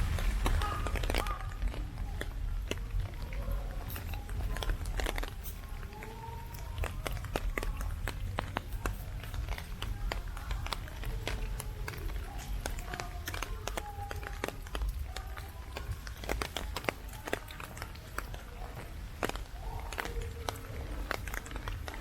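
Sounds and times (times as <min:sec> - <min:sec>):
faint voices: 0:00.0 - 0:22.0
raindrops pattering: 0:00.0 - 0:22.0.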